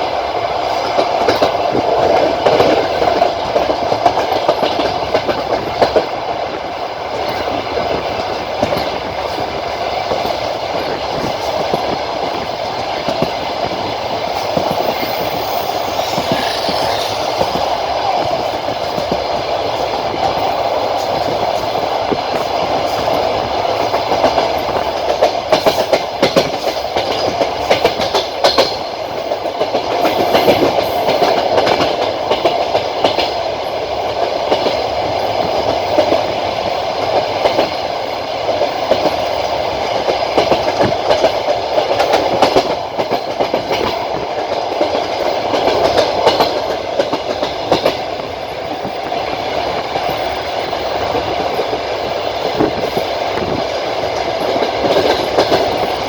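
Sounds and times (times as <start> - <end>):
train wheels rumbling on rails: 0.0 - 56.0
wheels clacking over rail joints: 0.7 - 33.4, 38.5 - 56.0.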